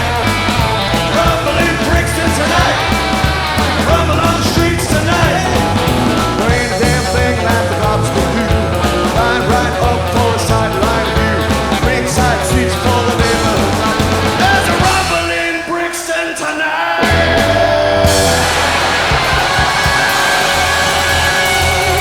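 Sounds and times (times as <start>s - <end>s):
bass line: 0.0s - 15.5s, 17.0s - 22.0s
electric guitar: 0.0s - 15.6s, 17.0s - 22.0s
drums: 0.0s - 22.0s.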